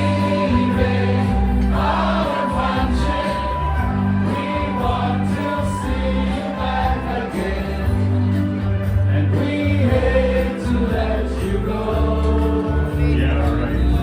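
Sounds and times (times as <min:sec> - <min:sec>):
voices singing over bass: 0:00.0 - 0:14.0.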